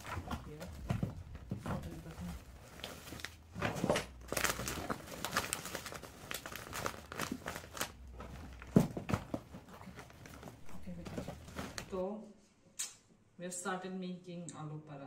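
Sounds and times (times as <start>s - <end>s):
rustling and crinkling of packing: 0.0s - 12.1s.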